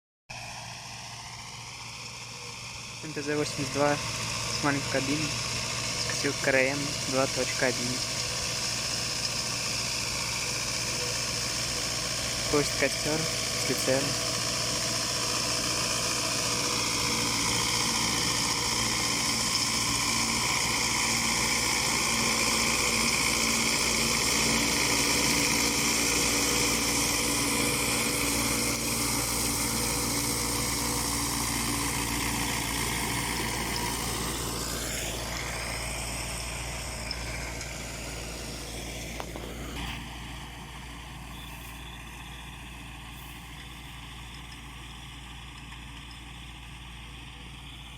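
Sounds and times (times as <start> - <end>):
tractor diesel engine running: 0.3 - 47.9.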